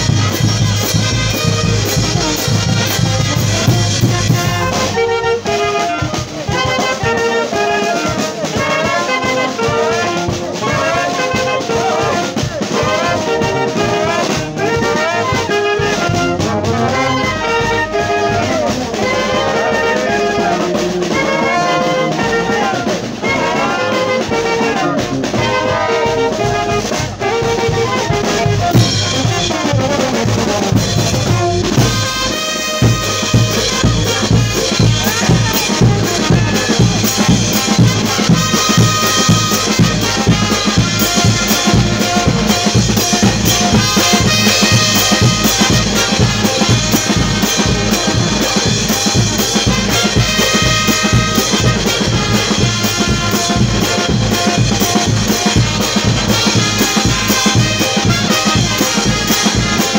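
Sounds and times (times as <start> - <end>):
bass drum and cymbals: 0.0 - 59.9
brass band playing: 0.0 - 59.9.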